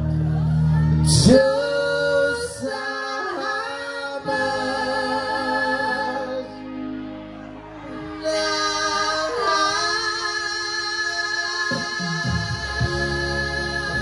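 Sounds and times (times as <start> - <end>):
keyboard: 0.0 - 14.0
live band music: 0.0 - 14.0
person singing: 0.0 - 14.0.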